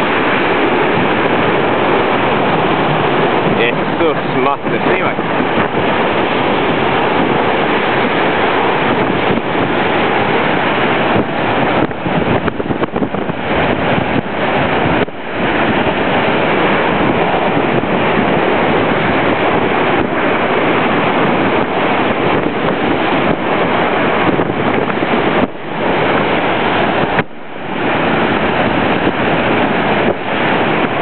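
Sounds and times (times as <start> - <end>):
waves breaking on shore: 0.0 - 31.0
wind blasting microphone: 0.0 - 31.0.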